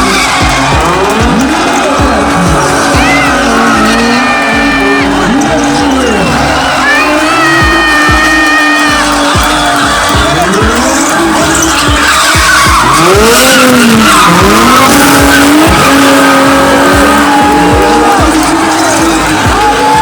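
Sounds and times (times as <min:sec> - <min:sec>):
background music with beat: 0:00.0 - 0:20.0
car engines revving: 0:00.0 - 0:20.0
tyres squealing: 0:00.0 - 0:20.0.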